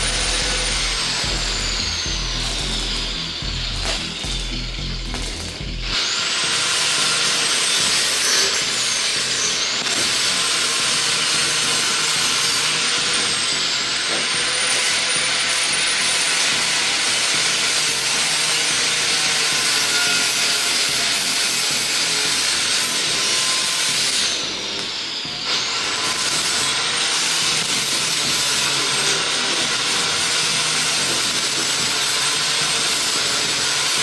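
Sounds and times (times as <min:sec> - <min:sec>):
angle grinder grinding steel: 0:00.0 - 0:34.0.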